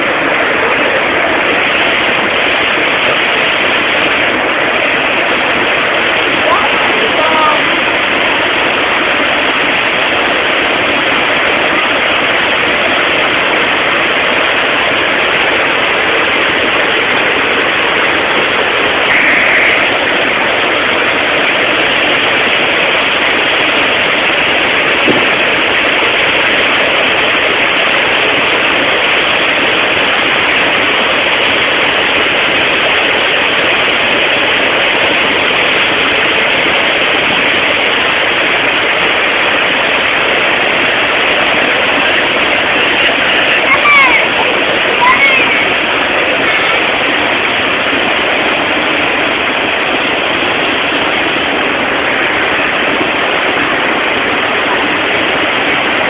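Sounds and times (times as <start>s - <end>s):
river water rushing over weir: 0.0s - 56.0s.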